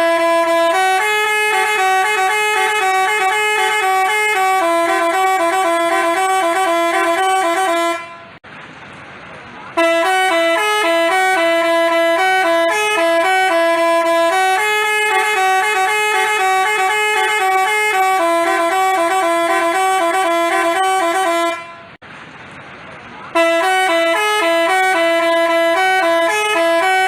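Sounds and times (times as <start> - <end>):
musical bus horn melody: 0.0 - 8.4, 9.8 - 22.0, 23.3 - 27.0.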